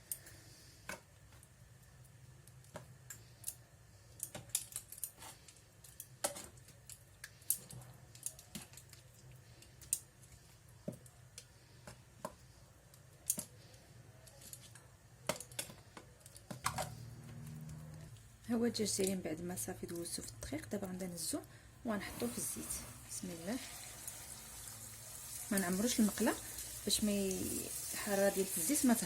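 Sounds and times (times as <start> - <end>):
low steady hum: 0.0 - 24.8.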